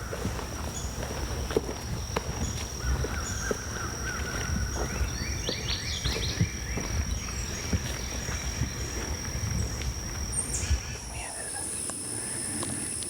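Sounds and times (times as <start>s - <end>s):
low outdoor rumble: 0.0s - 12.6s
small birds chirping: 0.0s - 13.0s.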